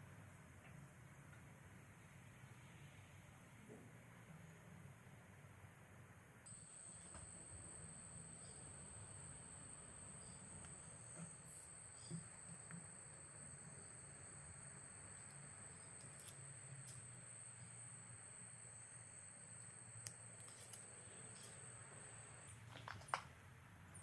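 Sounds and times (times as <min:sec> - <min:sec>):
faint hum with high whine: 0:00.0 - 0:24.0.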